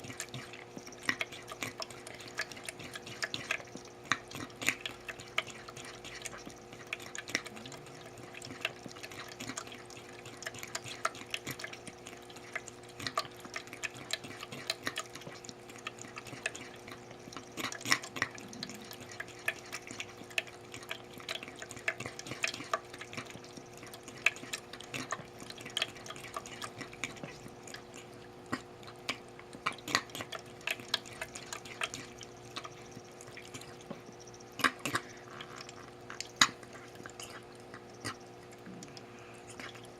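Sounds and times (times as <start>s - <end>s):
pet lapping and eating: 0.0s - 39.9s
steady low hum: 0.0s - 39.9s.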